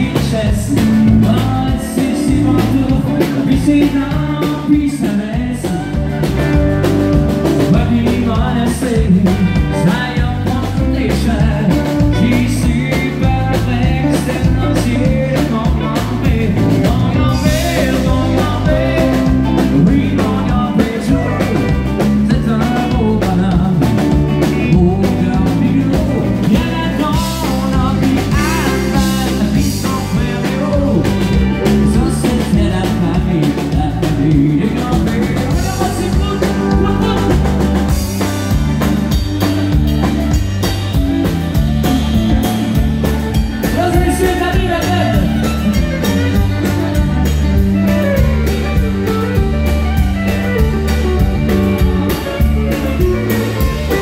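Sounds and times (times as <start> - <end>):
man singing: 0.0 - 38.8, 43.4 - 49.3
live country-rock band: 0.0 - 54.0.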